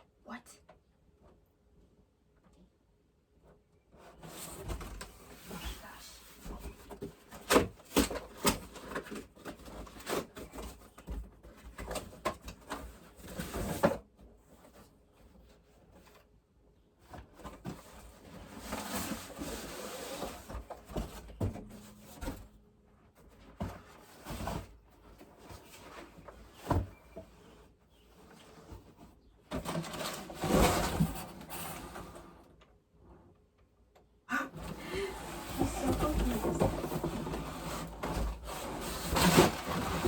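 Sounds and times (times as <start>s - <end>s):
cardboard scraping and rustling: 4.0s - 16.2s, 17.0s - 32.5s, 34.6s - 40.0s.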